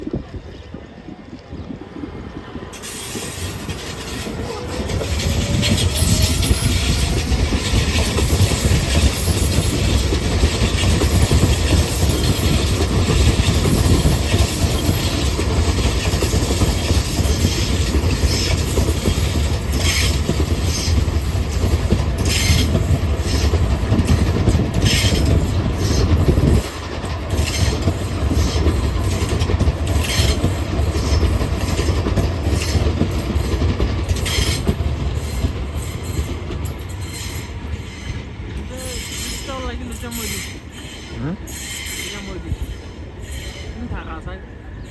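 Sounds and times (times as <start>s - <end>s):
rail joints clacking: 0.0s - 44.9s
train wheels rumbling on track: 0.0s - 44.9s.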